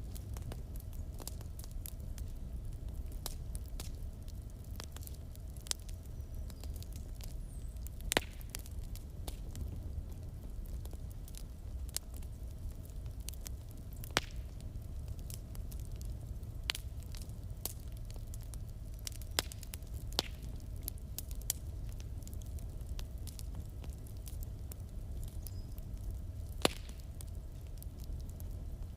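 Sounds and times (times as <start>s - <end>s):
burning logs crackling and popping: 0.0s - 28.9s
fire flames rumbling: 0.0s - 28.9s.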